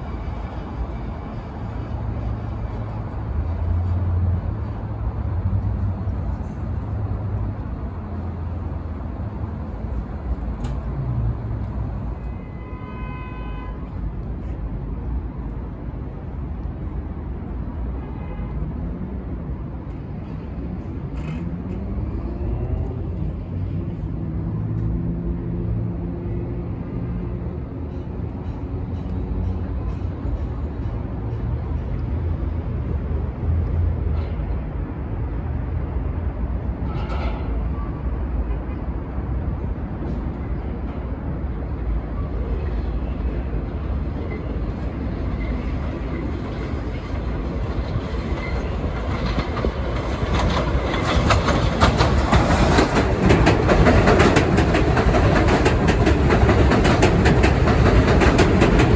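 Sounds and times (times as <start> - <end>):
low humming tones from train: 0.0 - 58.9
low rumble of city traffic: 0.0 - 58.9.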